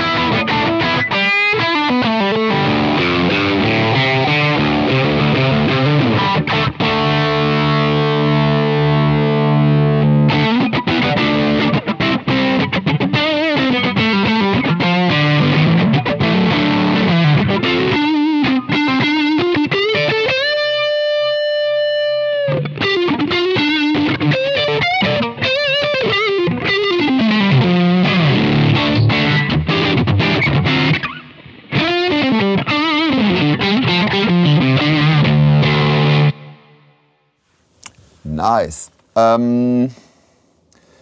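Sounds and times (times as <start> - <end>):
distorted electric guitar riffs: 0.0 - 37.2.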